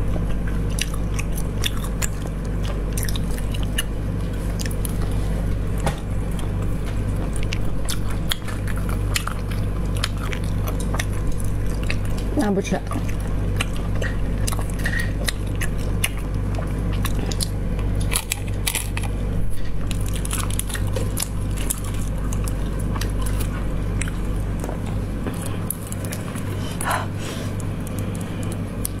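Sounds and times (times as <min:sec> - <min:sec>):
steady low hum: 0:00.0 - 0:29.0
wet biting and chewing: 0:00.0 - 0:29.0.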